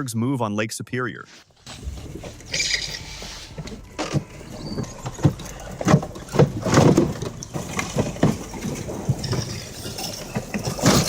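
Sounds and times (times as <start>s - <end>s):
lake ice grinding and crunching: 1.6s - 11.0s
ice cracking and knocking: 1.7s - 11.0s.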